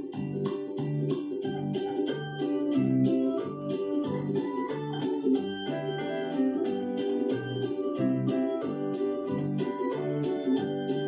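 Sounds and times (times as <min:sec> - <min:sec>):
organ-like keyboard tune over beat: 0:01.8 - 0:11.0.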